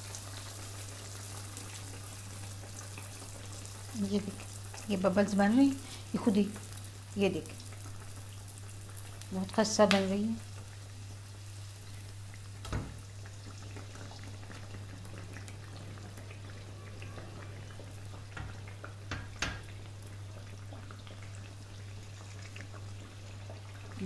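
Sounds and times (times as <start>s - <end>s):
oil sizzling and bubbling: 0.0s - 24.0s.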